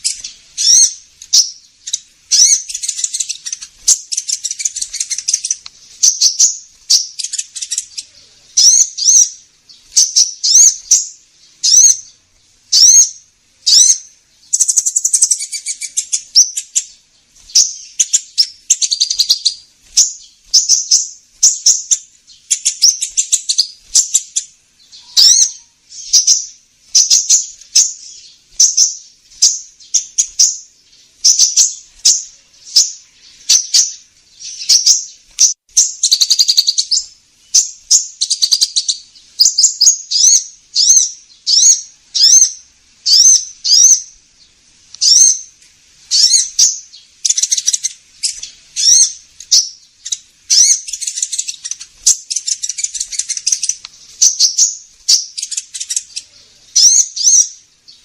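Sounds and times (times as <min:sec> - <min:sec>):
sunbird high rapid chirps: 0:00.0 - 0:58.0.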